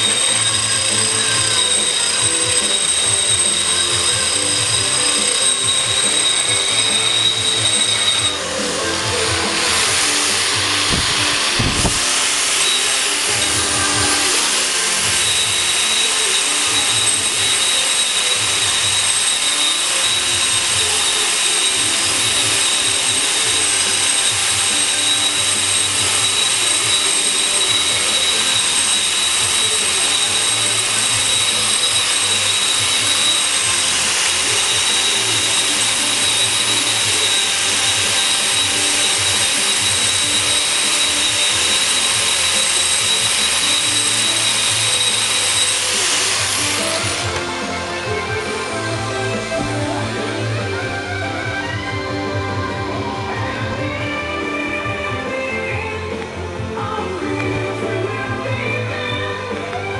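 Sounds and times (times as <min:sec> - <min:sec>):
angle grinder grinding concrete: 0:00.0 - 0:59.9.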